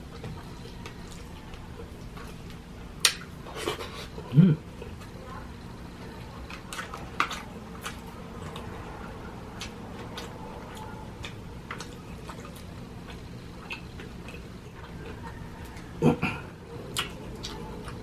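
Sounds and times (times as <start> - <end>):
chewing: 0.0 - 18.0.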